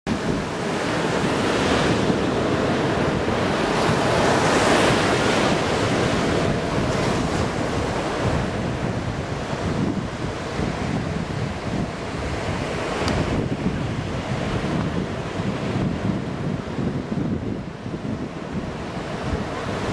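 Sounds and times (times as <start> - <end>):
surf breaking on beach: 0.1 - 19.9
wind buffeting microphone: 0.1 - 19.9.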